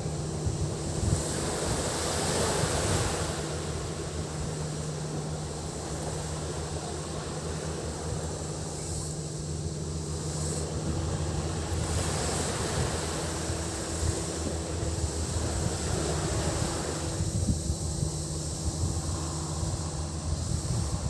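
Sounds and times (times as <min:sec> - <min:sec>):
cicadas droning: 0:00.0 - 0:21.0
sea waves washing on beach: 0:00.0 - 0:21.0
wind buffeting microphone: 0:00.0 - 0:21.0.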